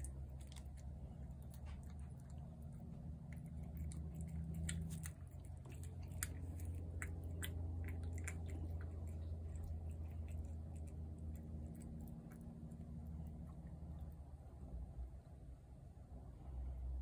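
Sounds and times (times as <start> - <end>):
cat crunching dry kibble: 0.0 - 14.2
low hum: 0.0 - 17.0.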